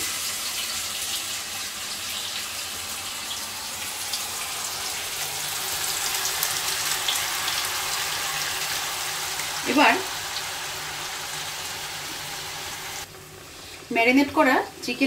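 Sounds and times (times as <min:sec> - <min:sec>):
chicken sizzling in hot fat: 0:00.0 - 0:15.0.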